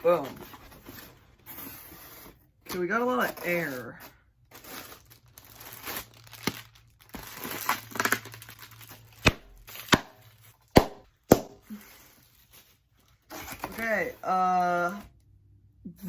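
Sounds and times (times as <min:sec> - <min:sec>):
packing material rustling: 0:00.0 - 0:10.7, 0:11.4 - 0:15.0.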